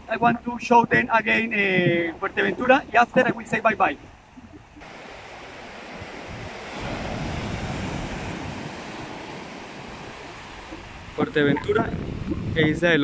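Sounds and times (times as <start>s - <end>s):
sea waves breaking on beach: 0.4s - 12.5s.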